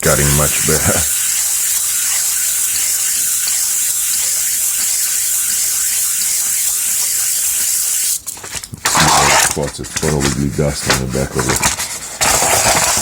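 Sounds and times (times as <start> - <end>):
metal rubbing on sandpaper: 0.0 - 13.0.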